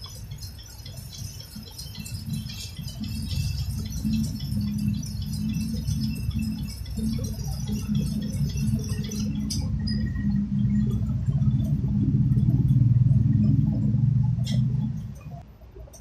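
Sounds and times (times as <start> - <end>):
filling rig mechanical hum: 0.0 - 16.0.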